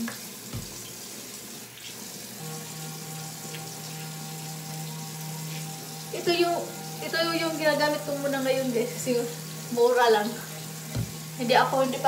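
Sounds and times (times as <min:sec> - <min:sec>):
electric cleansing brush humming: 0:00.0 - 0:12.0
tap water running into sink: 0:00.0 - 0:12.0.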